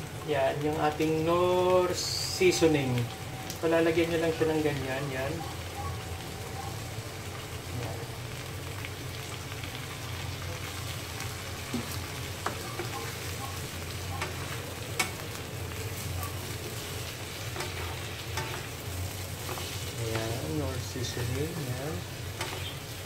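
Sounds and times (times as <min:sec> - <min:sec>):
tofu sizzling in a frying pan: 0:00.0 - 0:23.0.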